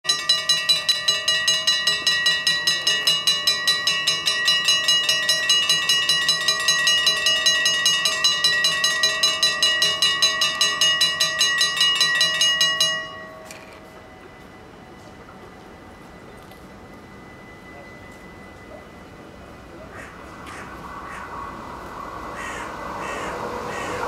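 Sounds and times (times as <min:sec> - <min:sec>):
level crossing bells ringing: 0:00.0 - 0:19.9.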